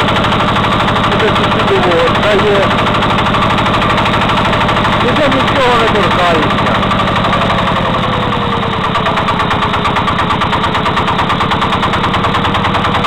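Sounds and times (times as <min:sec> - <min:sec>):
diesel engine running: 0:00.0 - 0:13.0
engine knocking: 0:00.0 - 0:13.0.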